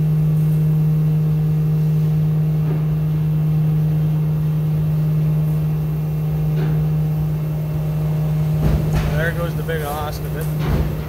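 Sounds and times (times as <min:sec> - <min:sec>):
hydraulic machinery hum: 0:00.0 - 0:11.0.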